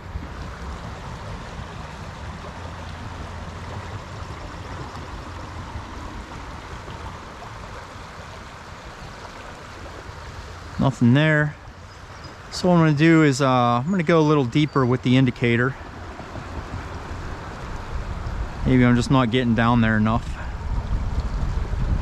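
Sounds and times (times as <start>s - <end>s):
stream splashing over riffles: 0.0s - 22.0s.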